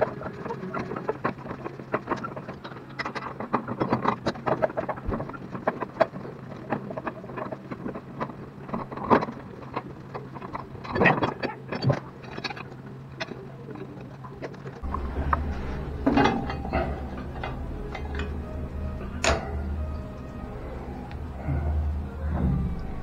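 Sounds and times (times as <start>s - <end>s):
clicks and scraping of pipe fittings: 0.0s - 20.0s
steady low hum: 0.0s - 23.0s.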